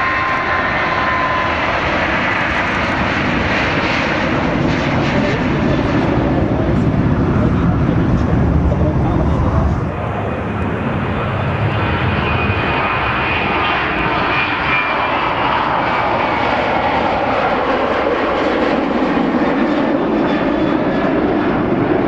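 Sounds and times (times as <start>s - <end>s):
jet engines at take-off power: 0.0s - 22.0s.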